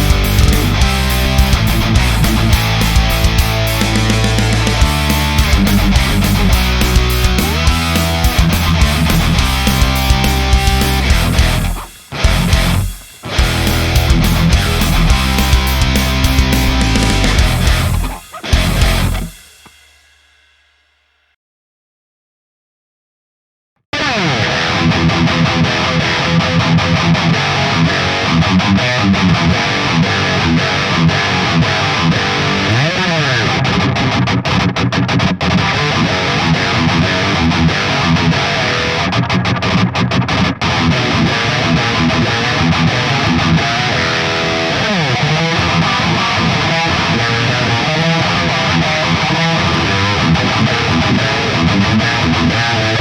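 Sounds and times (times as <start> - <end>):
guitar sliding pitch glides: 0.0 - 19.4, 24.0 - 53.0
distorted electric guitar riffing: 0.0 - 19.7, 24.0 - 53.0.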